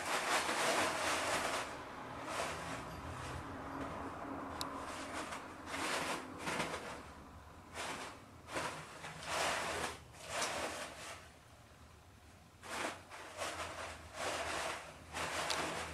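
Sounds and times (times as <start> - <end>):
toilet paper rustling: 0.0 - 11.4, 12.6 - 15.9.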